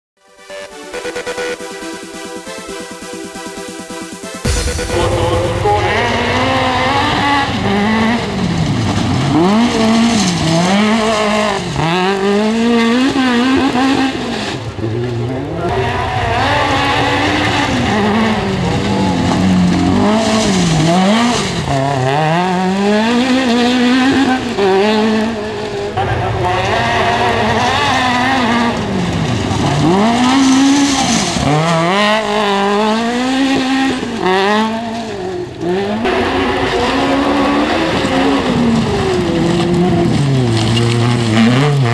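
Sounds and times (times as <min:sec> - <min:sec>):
buggy engine revving: 0:04.4 - 0:41.9.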